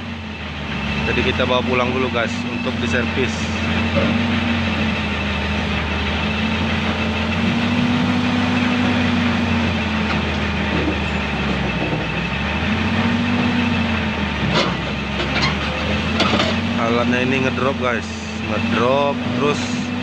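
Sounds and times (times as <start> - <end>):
excavator diesel engine under load: 0.0 - 20.0.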